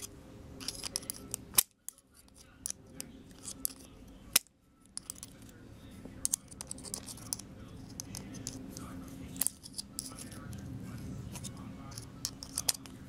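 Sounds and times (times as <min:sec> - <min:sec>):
clicks and clinks of parts handled: 0:00.0 - 0:05.6, 0:06.2 - 0:10.5, 0:11.4 - 0:13.0
low steady hum: 0:00.0 - 0:13.0.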